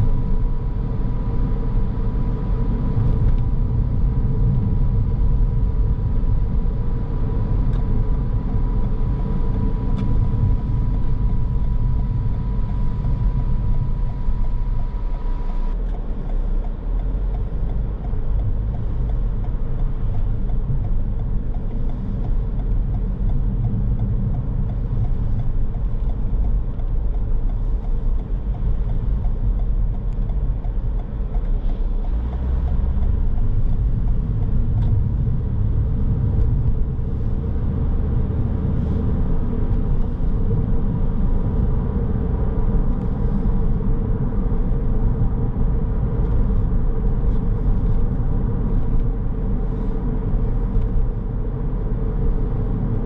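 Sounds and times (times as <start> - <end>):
car road and engine noise: 0.0 - 53.0.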